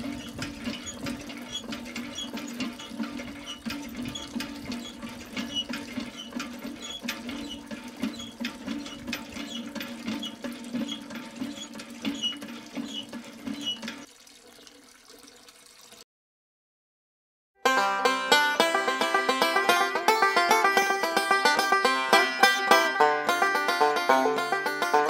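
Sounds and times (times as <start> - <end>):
water pump humming: 0.0 - 16.0, 18.0 - 25.0
water running into a trough: 0.0 - 16.0, 17.7 - 25.0.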